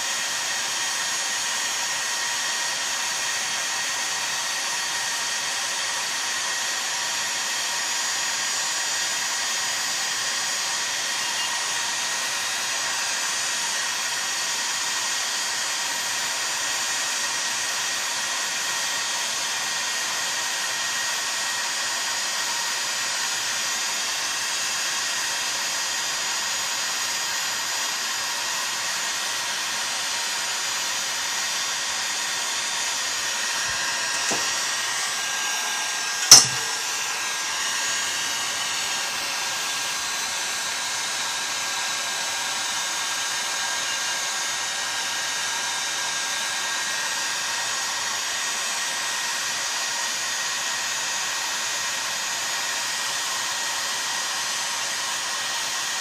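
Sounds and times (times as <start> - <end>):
heat gun blowing: 0.0 - 56.0.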